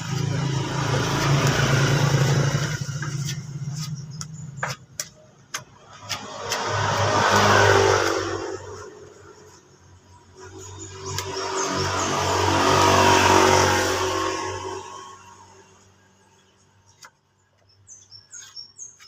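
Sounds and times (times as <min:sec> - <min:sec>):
passing vehicle engines: 0:00.0 - 0:16.8.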